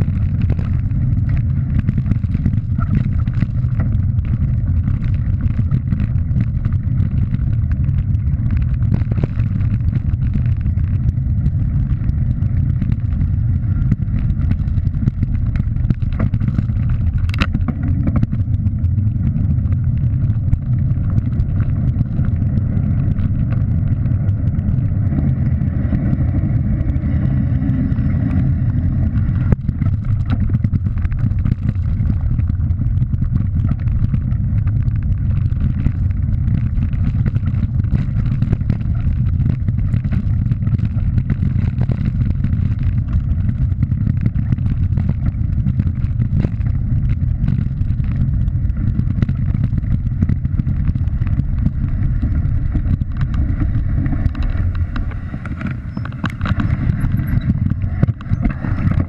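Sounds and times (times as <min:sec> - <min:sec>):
bike clicks and rattles: 0:00.0 - 0:59.0
tyres rolling over gravel: 0:00.0 - 0:59.0
wind buffeting microphone: 0:00.0 - 0:59.0.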